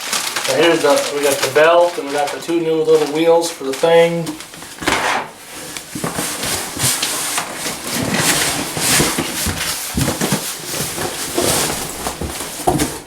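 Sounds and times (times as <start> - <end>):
crackly noise: 0.0 - 13.0
packaging rustling: 0.0 - 13.0.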